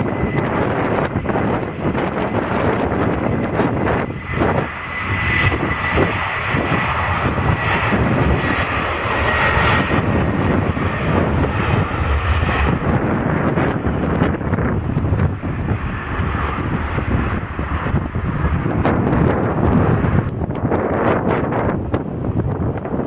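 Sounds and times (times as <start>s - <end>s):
airliner engines passing: 0.0s - 23.0s
wind buffeting microphone: 0.0s - 23.0s.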